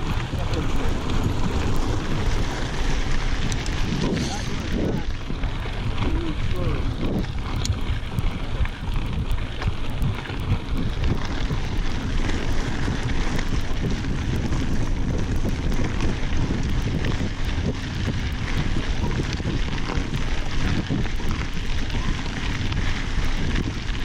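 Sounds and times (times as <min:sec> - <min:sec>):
bike rattling: 0:00.0 - 0:24.0
tyres crunching over gravel: 0:00.0 - 0:24.0
wind noise on microphone: 0:00.0 - 0:24.0.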